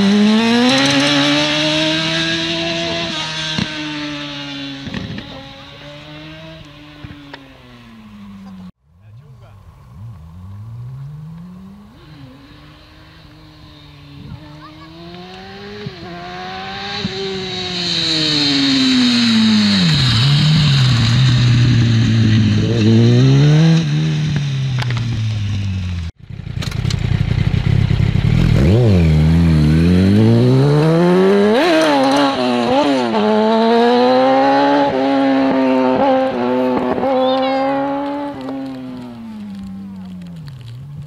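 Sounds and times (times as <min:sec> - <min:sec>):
motorbike engine revving: 0:00.0 - 0:41.0
motorbike passing by: 0:00.0 - 0:41.0
motorbike pulling away: 0:00.0 - 0:41.0.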